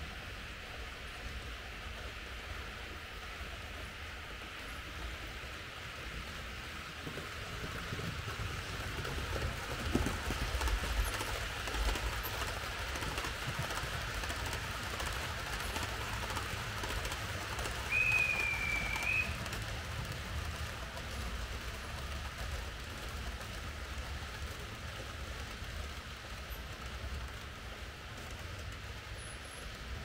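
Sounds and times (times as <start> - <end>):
model train wheels and motor rumble: 0.0 - 30.0
wheels clicking on rail joints: 0.6 - 30.0.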